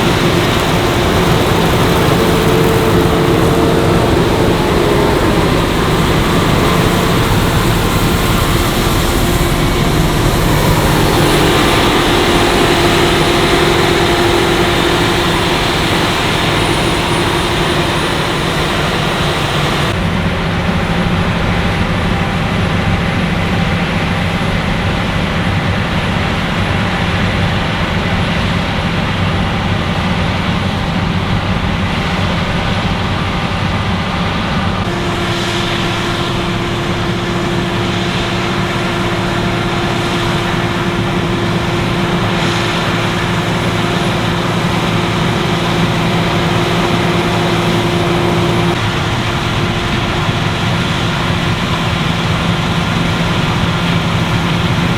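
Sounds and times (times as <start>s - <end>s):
harvesting machinery noise: 0.0s - 28.5s, 34.2s - 54.9s
combine harvester engine drone: 0.0s - 54.9s.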